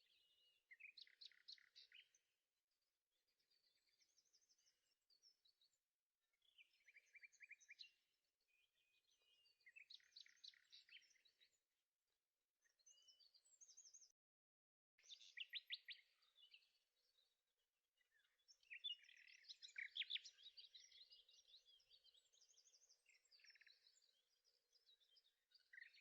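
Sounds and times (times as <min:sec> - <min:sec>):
faint songbirds singing: 0:00.0 - 0:26.0.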